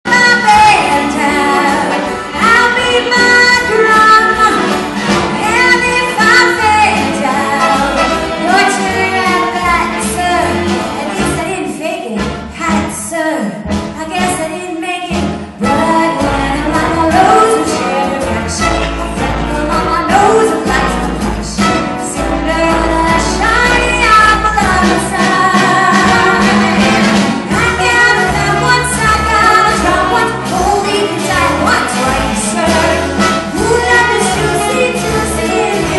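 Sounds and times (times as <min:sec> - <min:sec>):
woman singing show tune: 0:00.0 - 0:04.8, 0:05.4 - 0:35.9
band accompaniment: 0:00.0 - 0:35.9.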